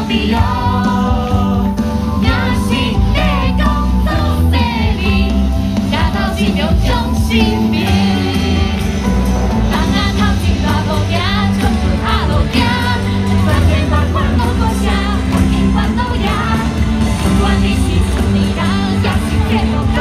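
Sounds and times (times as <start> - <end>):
backing track with heavy bass: 0.0 - 20.0
person singing with vibrato: 0.0 - 20.0.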